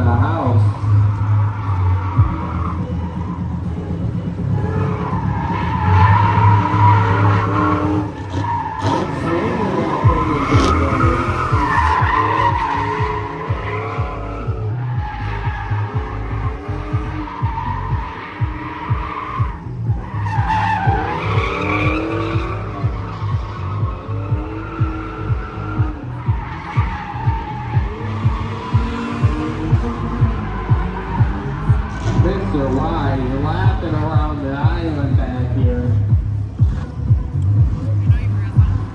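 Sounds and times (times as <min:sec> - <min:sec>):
car engines revving: 0:00.0 - 0:38.9
music with bass beat: 0:00.0 - 0:38.9
tires squealing: 0:00.0 - 0:38.9.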